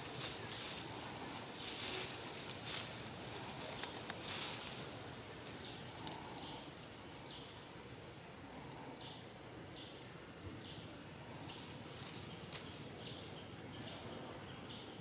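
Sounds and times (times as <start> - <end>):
faint forest background: 0.0 - 15.0.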